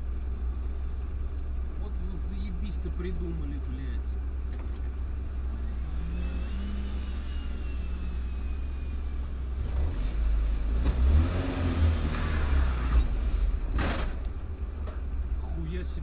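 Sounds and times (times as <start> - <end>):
car engine accelerating: 1.4 - 16.0.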